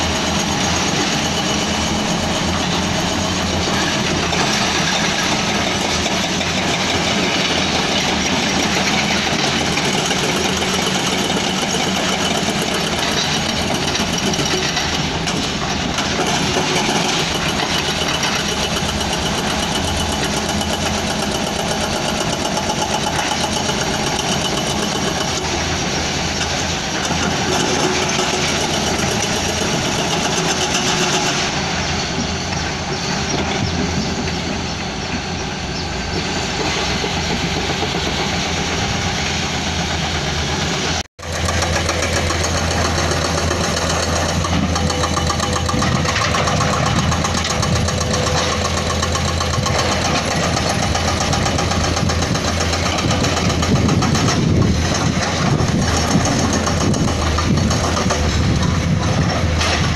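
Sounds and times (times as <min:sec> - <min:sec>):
diesel engines droning: 0:00.0 - 0:59.9.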